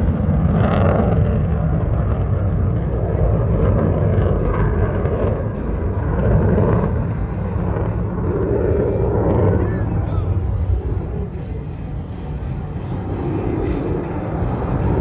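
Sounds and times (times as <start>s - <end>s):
distant jet aircraft roar: 0.0s - 15.0s.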